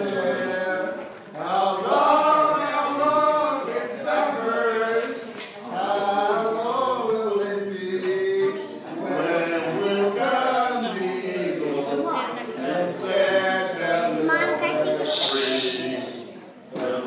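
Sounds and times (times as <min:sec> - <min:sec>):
men singing a chant: 0:00.0 - 0:12.0, 0:12.6 - 0:17.0.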